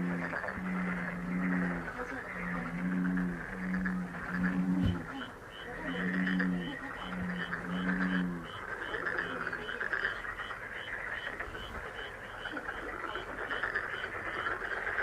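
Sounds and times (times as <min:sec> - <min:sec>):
low pitched frog croak: 0:00.0 - 0:15.0
trilling frog chorus: 0:00.0 - 0:15.0.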